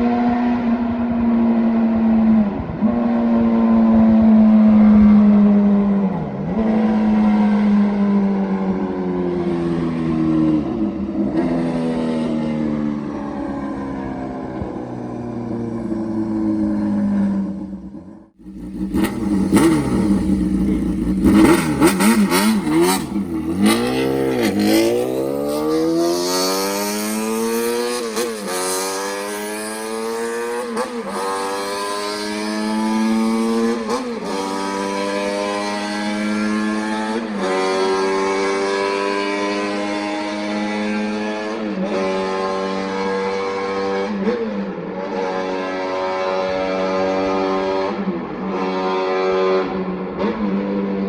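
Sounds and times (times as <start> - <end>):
motorcycle engine revving: 1.8 - 51.0.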